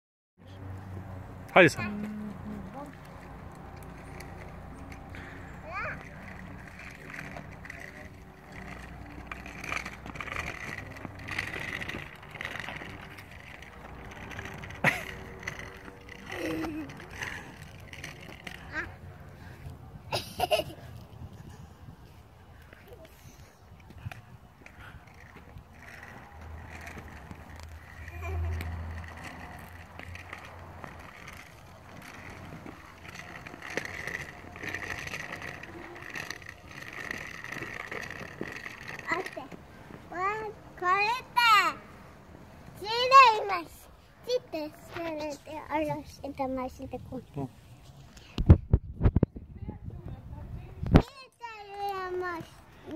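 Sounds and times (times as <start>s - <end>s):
scooter wheels rolling on asphalt: 0.4s - 52.9s.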